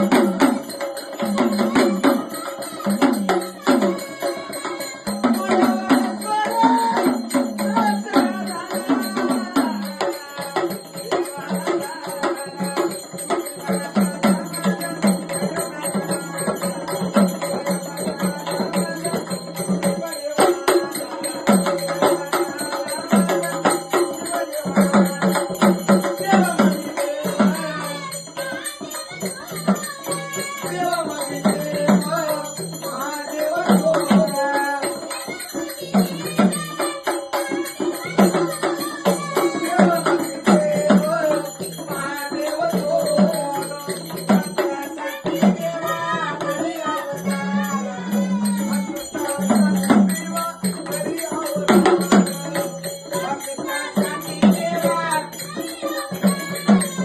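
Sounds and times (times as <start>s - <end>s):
drum beat: 0.0s - 57.0s.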